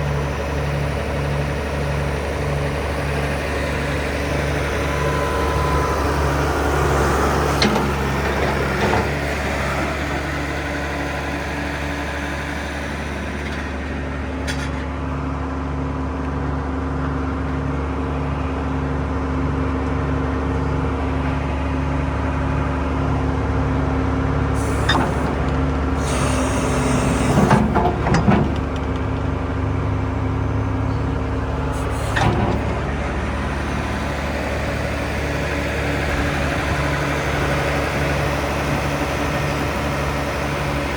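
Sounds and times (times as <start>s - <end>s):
diesel engine throbbing: 0.0s - 15.8s, 17.5s - 40.9s.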